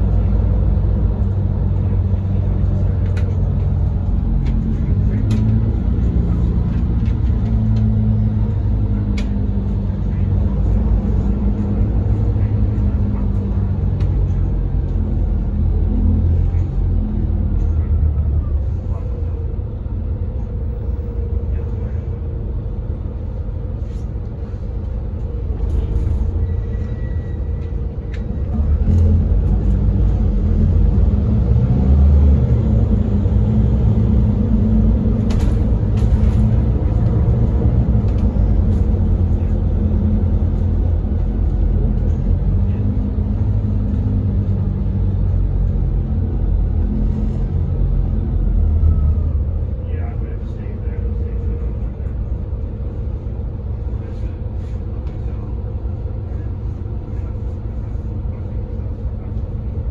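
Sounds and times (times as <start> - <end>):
bus diesel engine: 0.0 - 59.9
road rumble: 0.0 - 59.9.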